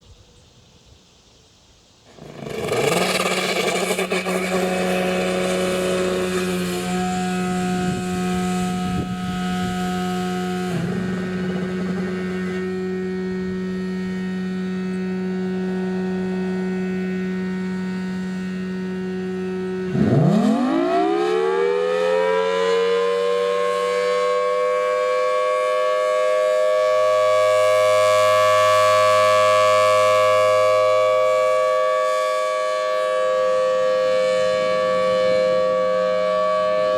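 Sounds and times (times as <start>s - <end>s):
siren blower humming: 2.1s - 36.9s
siren motor struggling to start: 2.1s - 36.9s
warning siren wailing: 2.1s - 36.9s.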